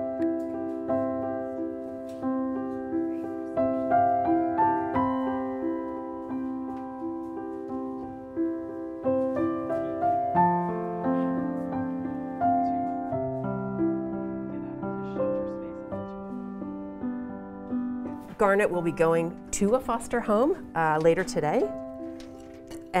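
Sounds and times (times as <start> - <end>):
slow piano melody: 0.0 - 23.0.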